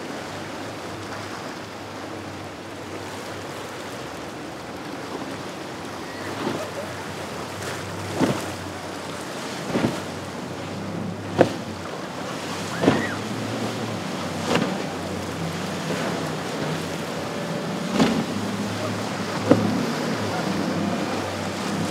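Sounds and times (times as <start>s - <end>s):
low engine hum: 0.0s - 21.9s
waves slapping boat: 0.0s - 21.9s
wind and water wash: 0.0s - 21.9s.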